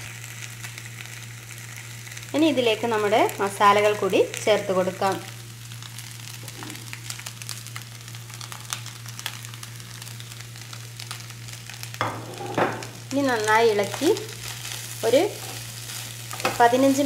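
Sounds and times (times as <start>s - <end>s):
meat frying in oil: 0.0s - 17.0s.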